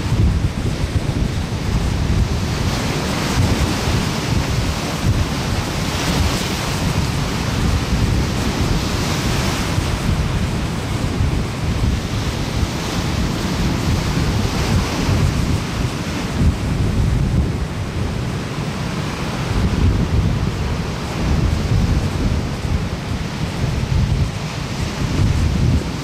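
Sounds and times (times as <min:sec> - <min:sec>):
ocean surf breaking on shore: 0:00.0 - 0:26.0
wind rumble on microphone: 0:00.0 - 0:26.0.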